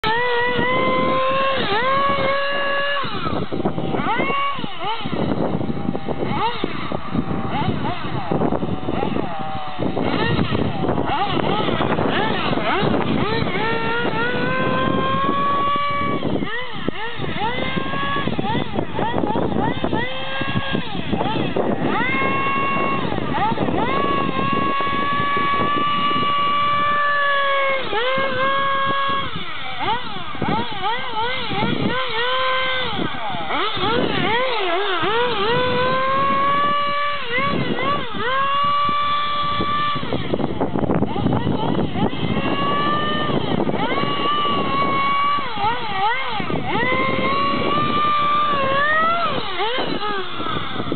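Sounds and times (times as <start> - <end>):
small model engine revving: 0.0 - 50.9.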